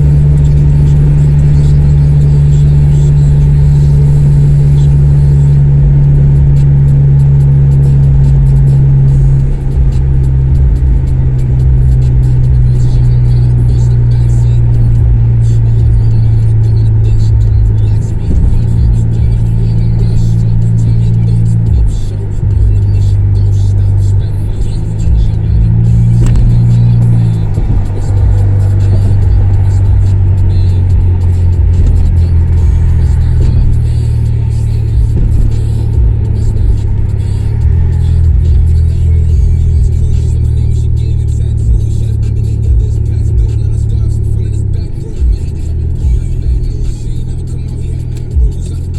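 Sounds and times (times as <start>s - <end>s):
car exhaust drone: 0.0s - 48.9s.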